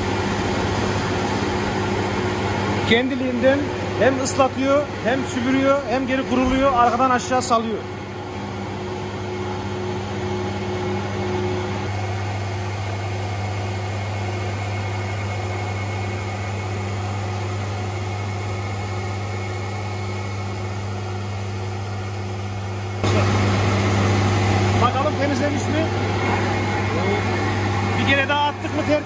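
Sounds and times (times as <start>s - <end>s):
cleaning machine motor hum: 0.0s - 29.0s.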